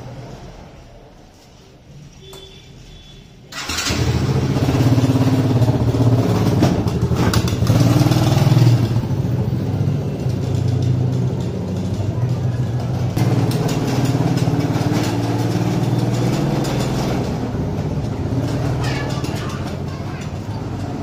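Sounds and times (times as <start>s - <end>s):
quad engine revving: 3.6s - 21.0s.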